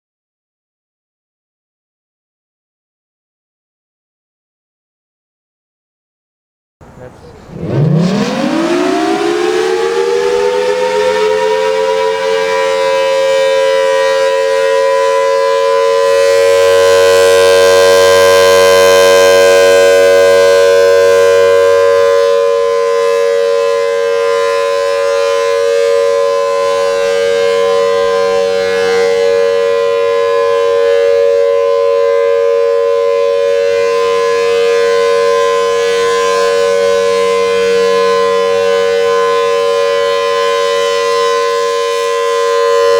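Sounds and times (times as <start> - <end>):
warning siren two-tone chord: 7.0 - 42.9.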